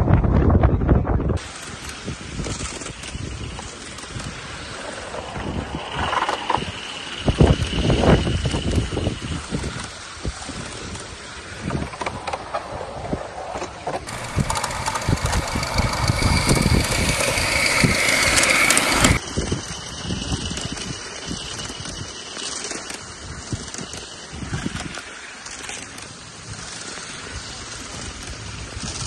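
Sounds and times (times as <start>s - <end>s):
steam hissing: 1.4s - 11.9s, 14.1s - 29.0s.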